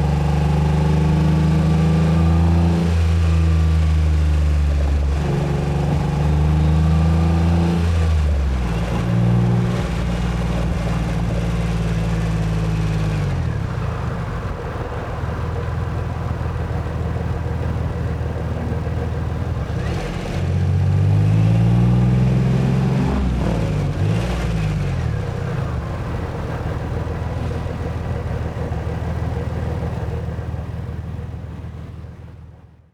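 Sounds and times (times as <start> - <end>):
tyre and road noise: 0.0 - 32.7.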